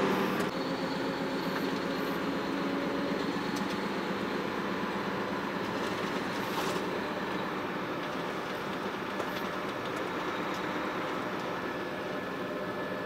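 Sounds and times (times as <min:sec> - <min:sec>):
road noise inside cab: 0:00.0 - 0:13.0
truck engine drone: 0:00.0 - 0:13.0.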